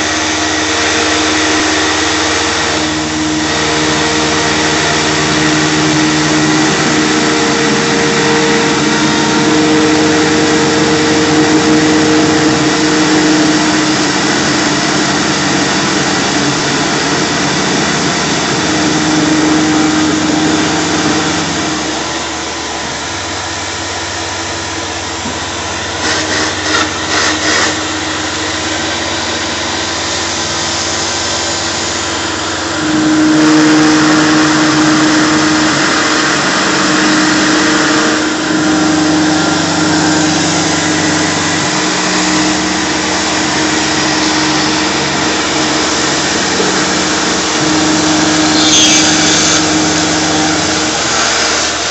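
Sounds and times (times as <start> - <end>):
mill spindle milling plastic: 0.0 - 51.9
shop vacuum running: 0.0 - 51.9.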